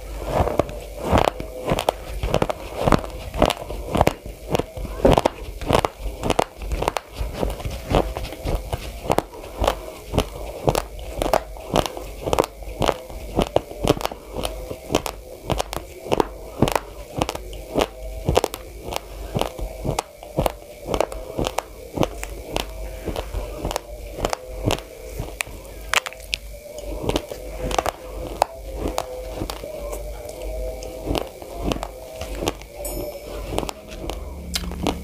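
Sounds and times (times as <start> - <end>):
raw rice crunching in mouth: 0.0 - 35.0.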